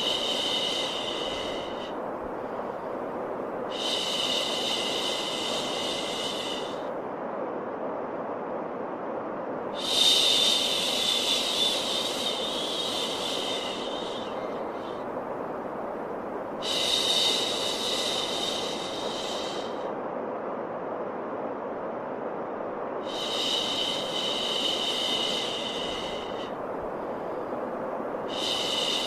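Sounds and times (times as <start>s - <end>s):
white noise hiss: 0.0s - 29.0s.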